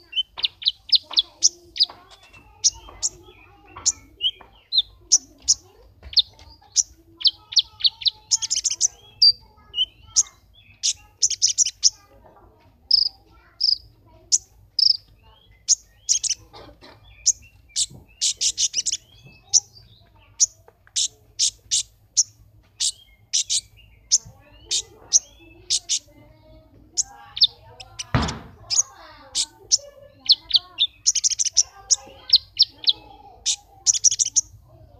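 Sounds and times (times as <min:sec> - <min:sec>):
sunbird singing high chirps: 0:00.0 - 0:12.2, 0:12.9 - 0:34.8.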